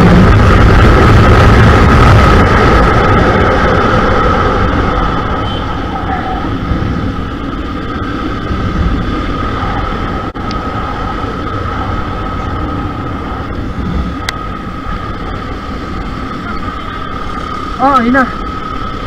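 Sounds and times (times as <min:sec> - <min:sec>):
motorcycle engine running: 0:00.0 - 0:19.0
road noise: 0:00.0 - 0:19.0
wind rush: 0:00.0 - 0:19.0.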